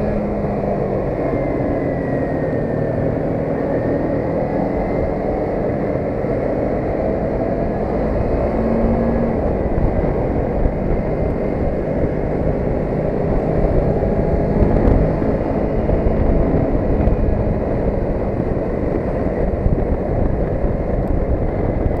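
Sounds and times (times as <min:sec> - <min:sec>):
low road rumble: 0:00.0 - 0:22.0
motorcycle engine cruising: 0:00.0 - 0:22.0
wind noise on microphone: 0:00.0 - 0:22.0.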